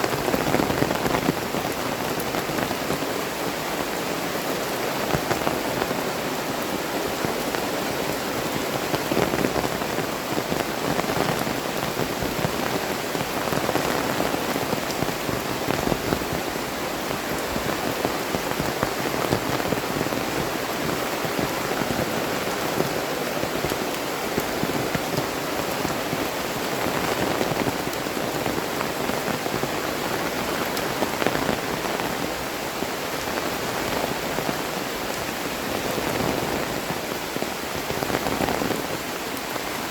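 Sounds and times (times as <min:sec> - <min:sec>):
heavy rain falling: 0:00.0 - 0:39.9
raindrops hitting nearby: 0:00.0 - 0:39.9.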